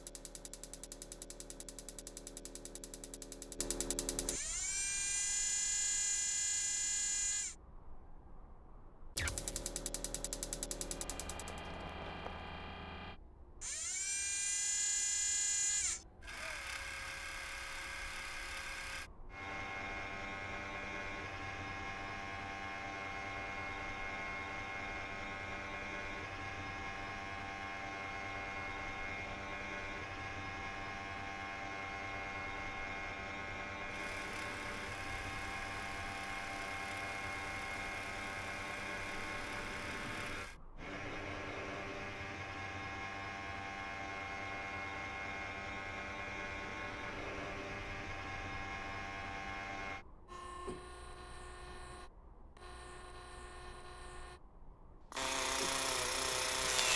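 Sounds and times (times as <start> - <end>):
electric motor whir rising: 0.0 - 7.6, 9.2 - 54.4, 55.1 - 56.9.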